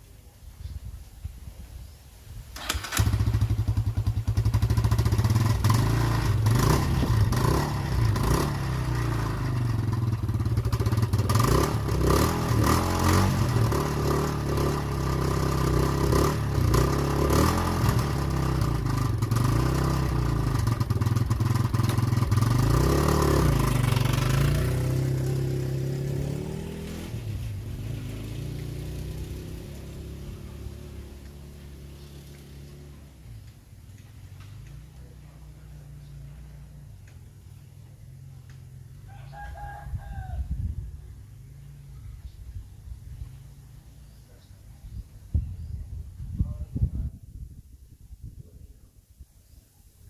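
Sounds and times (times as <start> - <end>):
motorcycle engine starting and running: 2.5 - 44.6.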